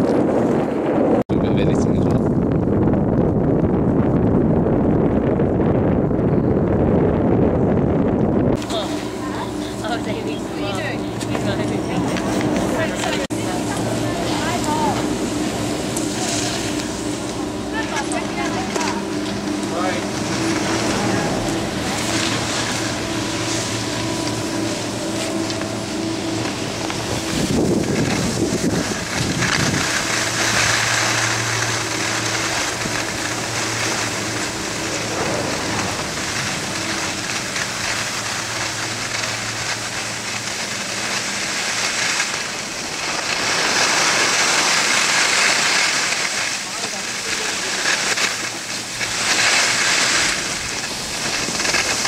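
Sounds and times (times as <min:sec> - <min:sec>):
wind buffeting microphone: 0:00.0 - 0:52.0
skis scraping over snow: 0:08.6 - 0:52.0.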